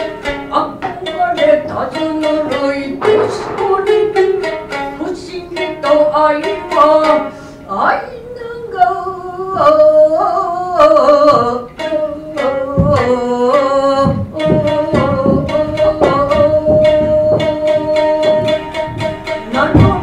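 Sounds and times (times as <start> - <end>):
shamisen plucks: 0.0 - 20.0.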